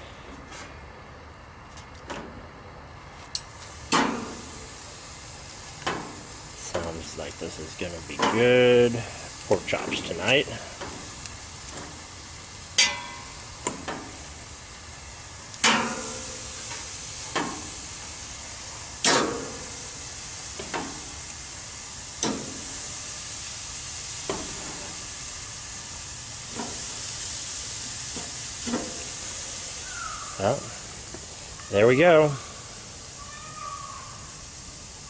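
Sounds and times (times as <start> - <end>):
meat sizzling on a grill: 3.2 - 35.0.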